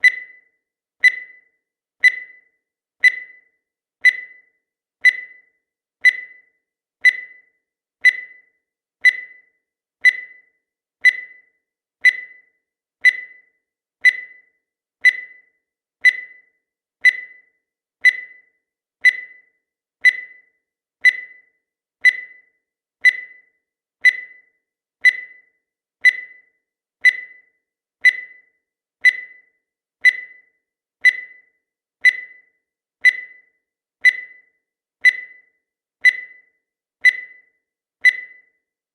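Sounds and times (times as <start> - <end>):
timer ticking: 0.0 - 38.7.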